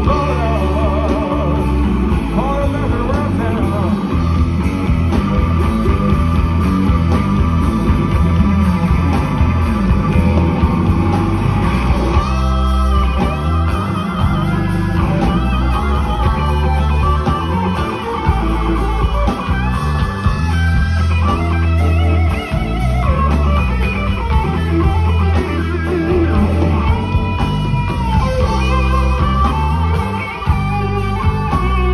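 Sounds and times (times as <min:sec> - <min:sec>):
bass line: 0:00.0 - 0:31.9
blues electric guitar lead: 0:00.0 - 0:31.9
drums: 0:00.0 - 0:31.9.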